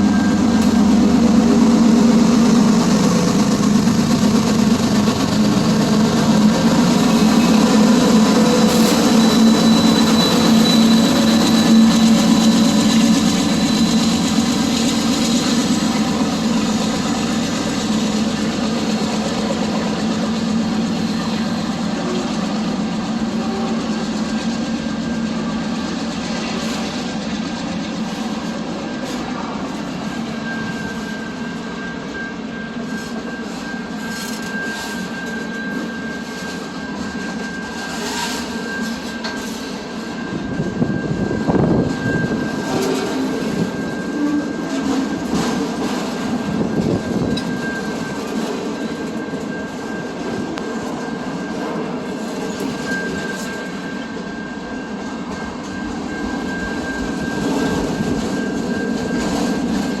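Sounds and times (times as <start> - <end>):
train rolling on rails: 0.0 - 60.0.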